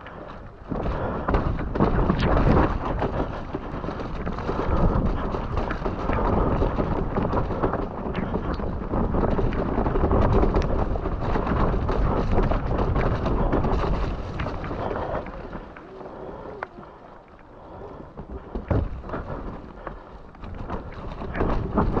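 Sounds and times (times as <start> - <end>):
bike rattles and knocks: 0.0 - 22.0
tyres rumbling over mud: 0.0 - 22.0
wind buffeting microphone: 0.0 - 22.0.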